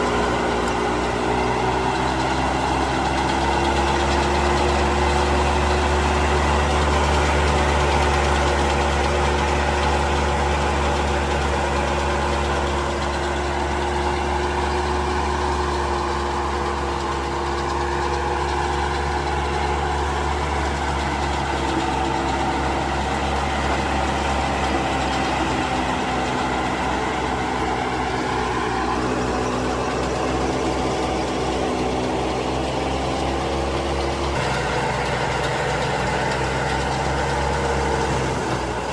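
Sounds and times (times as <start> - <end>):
combine harvester engine droning: 0.0 - 38.9.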